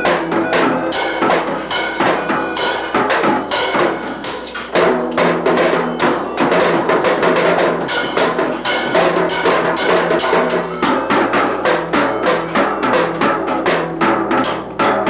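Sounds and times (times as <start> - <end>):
drum kit playing fast rhythm: 0.0 - 15.0.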